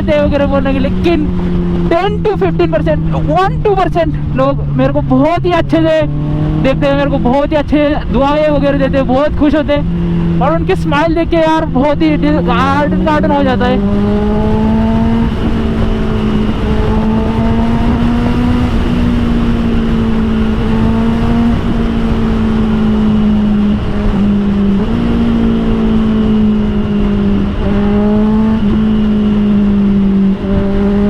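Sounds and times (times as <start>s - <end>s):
motorcycle engine cruising: 0.0s - 31.0s
wind and road noise: 0.0s - 31.0s.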